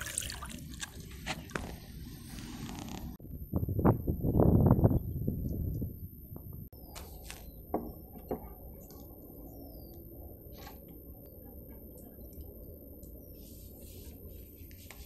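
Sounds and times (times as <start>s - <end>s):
low steady background: 0.1s - 15.0s.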